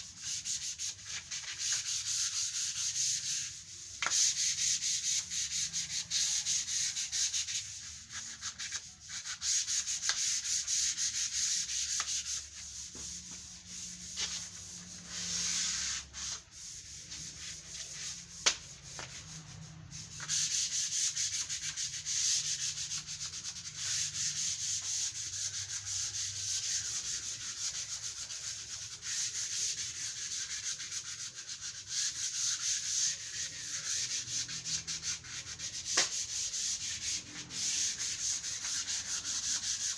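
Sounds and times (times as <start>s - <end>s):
sandpaper scratching on wood: 0.0s - 39.9s.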